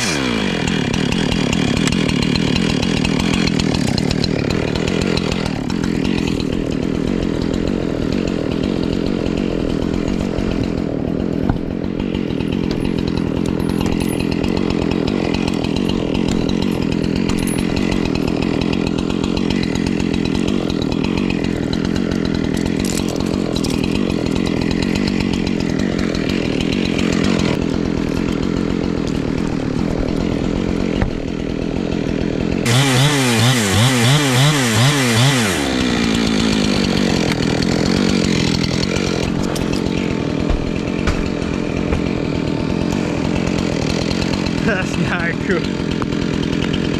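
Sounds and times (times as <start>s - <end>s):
chainsaw cutting: 0.0s - 46.9s.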